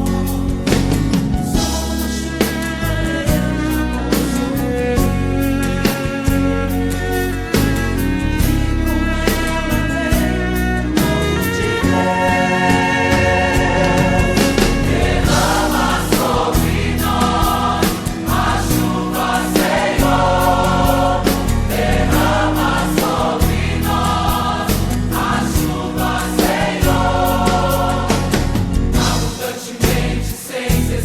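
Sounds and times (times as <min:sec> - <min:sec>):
choir singing: 0:00.0 - 0:06.0, 0:08.0 - 0:31.0
drums and bass: 0:00.0 - 0:31.0.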